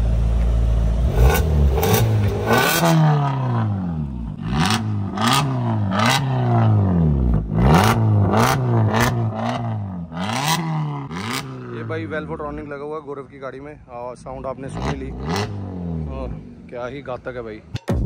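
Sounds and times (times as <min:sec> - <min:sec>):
car exhaust revving: 0:00.0 - 0:12.8, 0:14.2 - 0:17.8
exhaust cracks: 0:00.0 - 0:13.5, 0:14.2 - 0:18.0.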